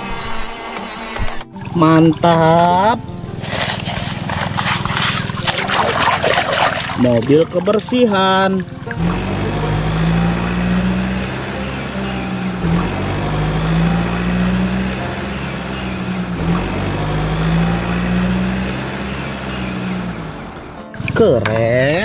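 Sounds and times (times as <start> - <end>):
background music with low notes: 0.0 - 22.0.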